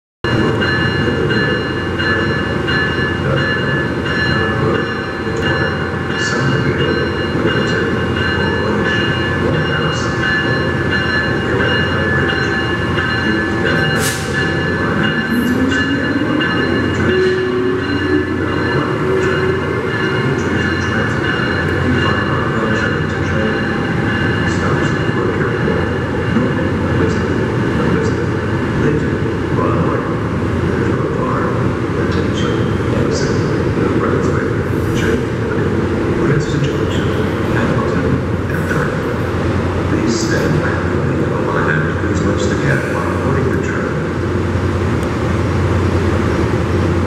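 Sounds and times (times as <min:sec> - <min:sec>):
electric locomotive whine: 0:00.3 - 0:47.0.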